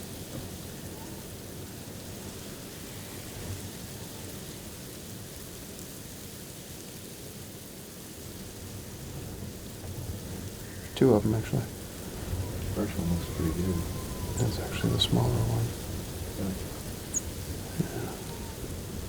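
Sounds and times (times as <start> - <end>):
blizzard wind: 0.0 - 5.9, 8.1 - 19.0.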